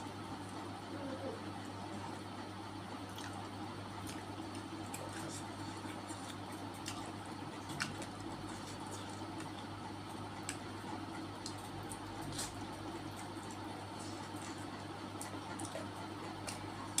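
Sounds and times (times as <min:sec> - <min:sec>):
steady low hum: 0:00.0 - 0:17.0
wet chewing and smacking: 0:02.9 - 0:17.0.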